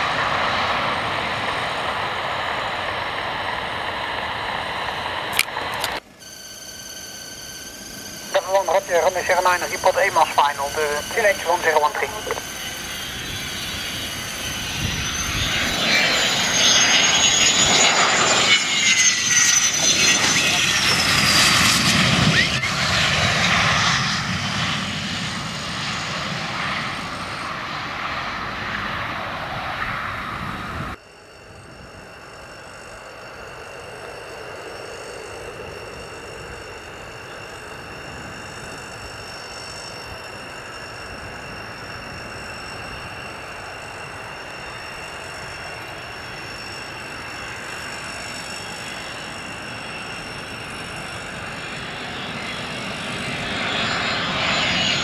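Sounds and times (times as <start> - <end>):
fighter jet passing: 0.0 - 6.0, 7.4 - 55.0
jet engine whine on approach: 0.0 - 55.0.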